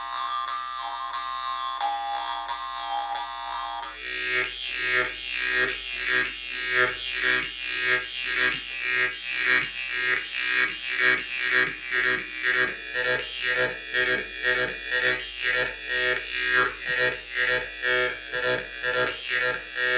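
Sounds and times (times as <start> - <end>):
jaw harp buzzing and strumming: 0.0 - 19.9.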